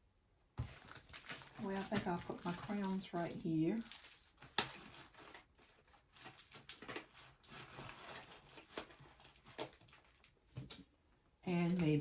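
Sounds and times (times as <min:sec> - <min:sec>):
paper rustling: 0:00.6 - 0:10.8.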